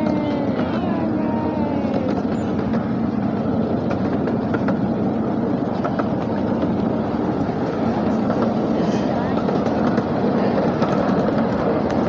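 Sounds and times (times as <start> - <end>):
miniature train rumbling on track: 0.0 - 12.0.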